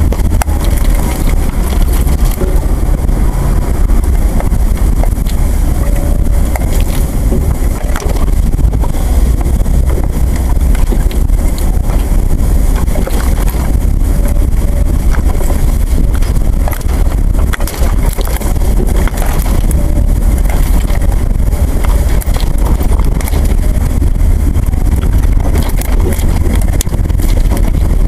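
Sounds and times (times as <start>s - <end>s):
off-road vehicle engine rumble: 0.0s - 28.0s
wind buffeting microphone: 0.0s - 28.0s.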